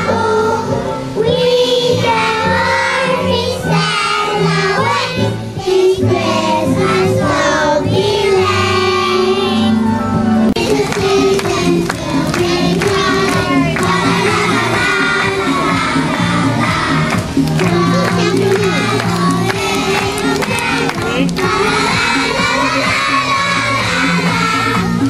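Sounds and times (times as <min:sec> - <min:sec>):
children singing in unison: 0:00.0 - 0:09.8, 0:10.6 - 0:25.0
backing music track: 0:00.0 - 0:25.0.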